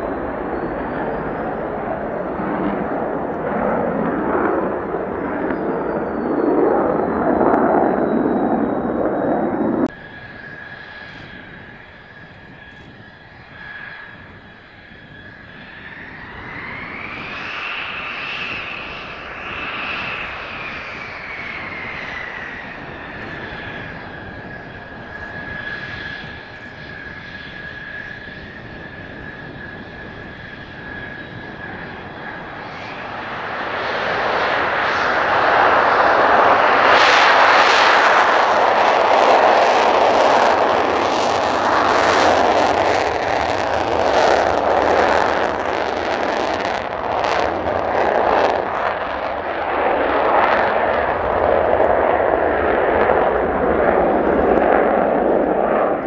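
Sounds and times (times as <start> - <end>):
jet afterburner roar: 0.0 - 56.0
jet engines whining on ground: 0.0 - 56.0.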